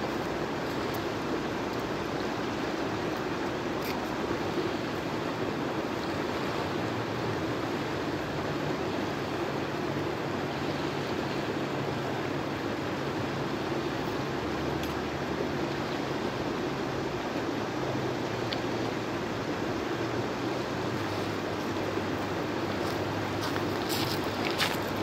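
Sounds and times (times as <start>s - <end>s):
river rapids rushing over boulders: 0.0s - 25.0s.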